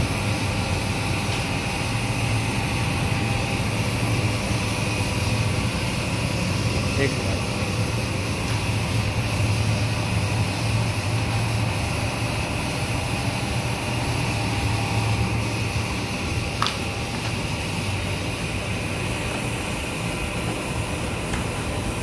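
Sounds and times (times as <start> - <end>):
machinery drone with low hum: 0.0 - 22.0.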